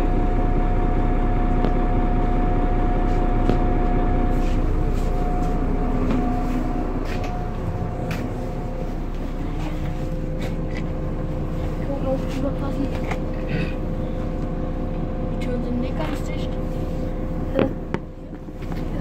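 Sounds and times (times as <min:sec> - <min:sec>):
bus running noise: 0:00.0 - 0:19.0
drivetrain whine: 0:00.0 - 0:19.0.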